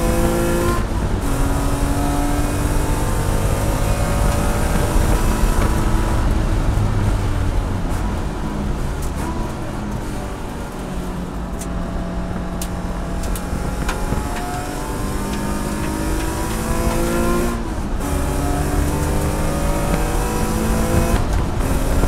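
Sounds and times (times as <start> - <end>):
race car engine accelerating: 0.0 - 22.0
gear upshifts: 0.2 - 22.0.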